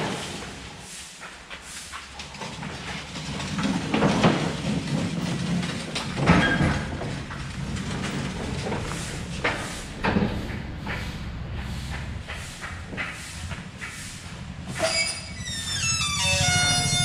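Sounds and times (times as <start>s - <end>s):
metal trolley rumbling over floor: 0.0s - 17.0s.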